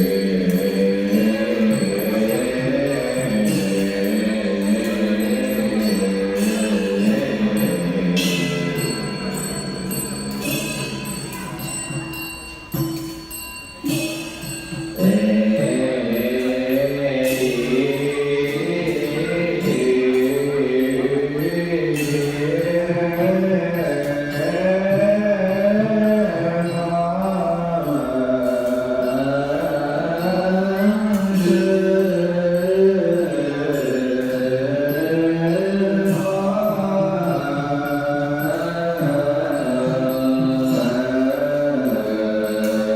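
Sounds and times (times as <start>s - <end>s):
bell-like notes ringing: 0.0s - 42.9s
low voices chanting: 0.0s - 42.9s.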